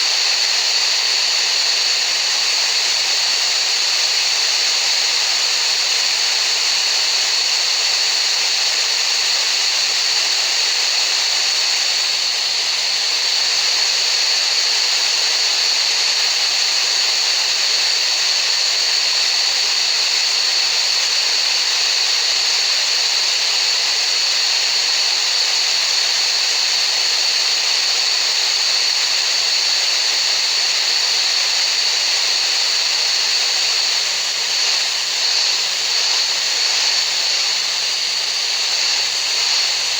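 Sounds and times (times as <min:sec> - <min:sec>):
steady hissing noise: 0:00.0 - 0:39.9.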